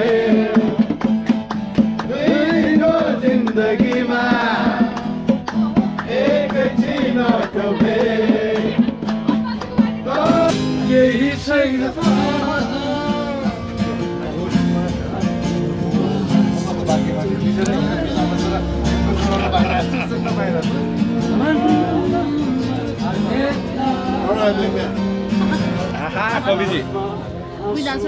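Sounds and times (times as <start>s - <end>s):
men singing: 0.0s - 1.1s, 1.8s - 28.0s
acoustic guitar strumming: 0.0s - 28.0s.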